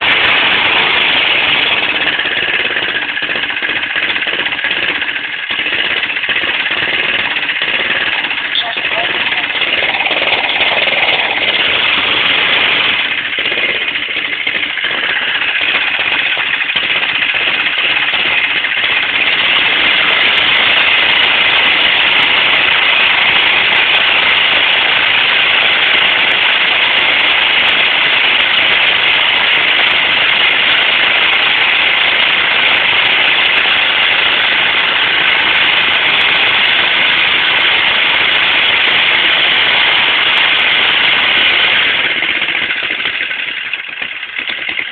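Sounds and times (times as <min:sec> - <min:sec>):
small engine revving high: 0:00.0 - 0:44.9.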